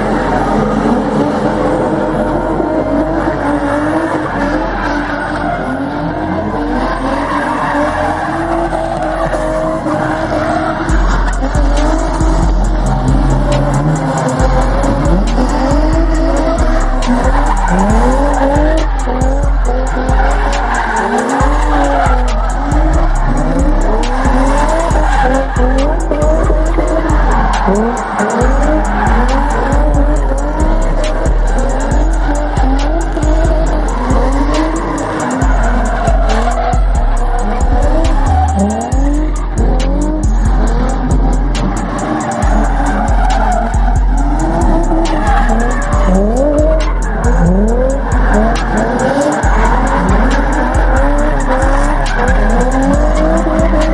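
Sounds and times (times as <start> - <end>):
car engine revving: 0.0 - 53.9
loud music with heavy bass: 0.0 - 53.9
tires squealing: 0.0 - 53.9.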